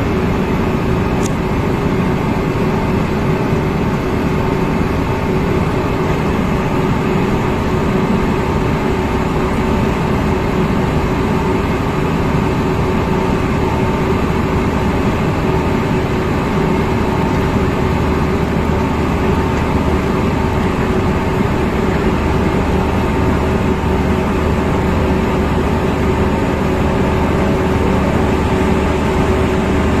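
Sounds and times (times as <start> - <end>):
machinery drone and hum: 0.0 - 30.0.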